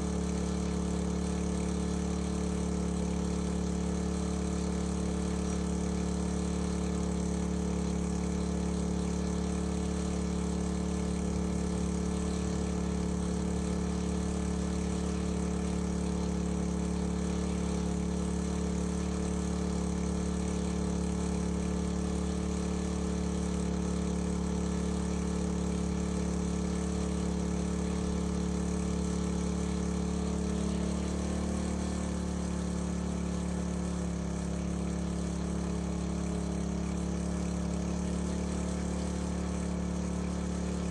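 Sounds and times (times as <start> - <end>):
engine-driven water pump running: 0.0 - 40.9.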